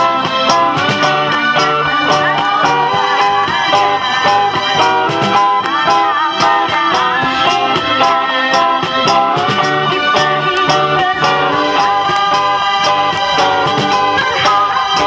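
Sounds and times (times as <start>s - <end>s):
drums: 0.0s - 15.0s
electric guitar: 0.0s - 15.0s
keyboard notes: 0.0s - 15.0s.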